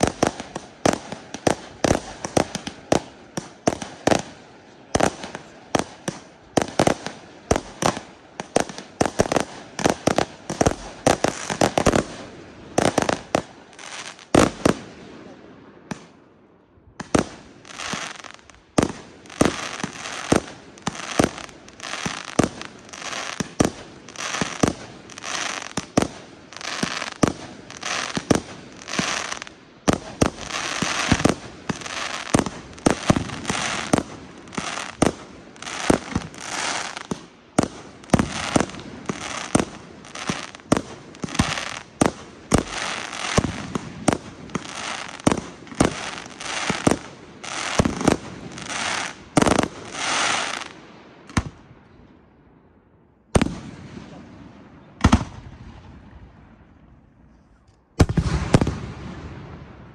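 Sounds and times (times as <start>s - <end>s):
fireworks hissing and crackling: 0.0s - 16.1s, 17.0s - 51.6s.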